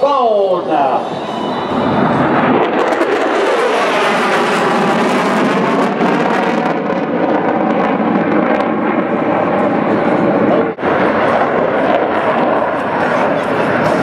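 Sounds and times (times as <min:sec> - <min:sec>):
jet bomber flying past: 0:00.0 - 0:14.0.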